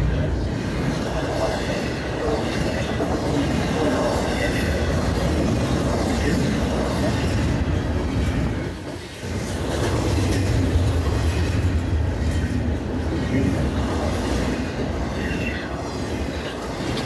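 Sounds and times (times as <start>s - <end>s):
deep train rumble: 0.0s - 17.0s
freight train wheels clacking: 0.0s - 17.0s.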